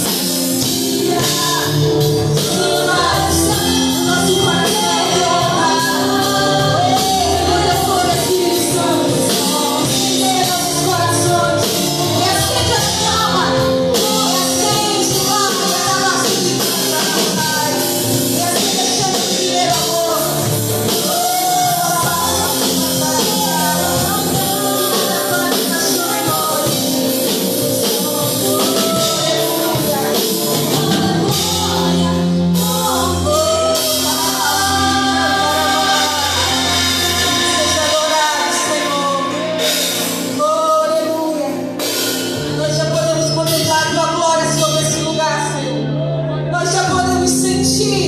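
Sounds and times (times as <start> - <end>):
live band playing: 0.0 - 48.0
person singing: 0.0 - 48.0.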